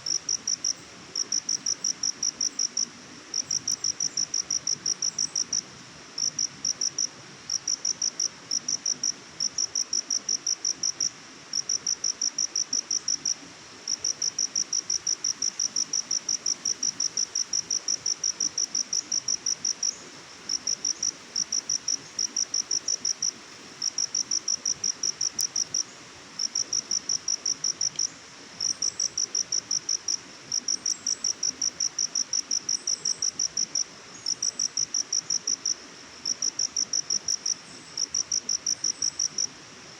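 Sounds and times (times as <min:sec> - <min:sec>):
cricket chirping: 0:00.0 - 0:05.6, 0:06.2 - 0:39.6
soft steady hiss: 0:00.0 - 0:39.9.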